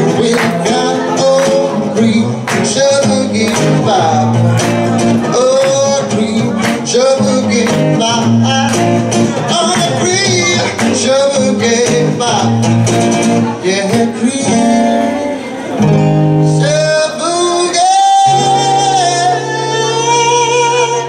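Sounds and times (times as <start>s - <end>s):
man singing into a microphone: 0.0s - 15.8s, 16.4s - 21.0s
strummed acoustic guitar: 0.0s - 21.0s.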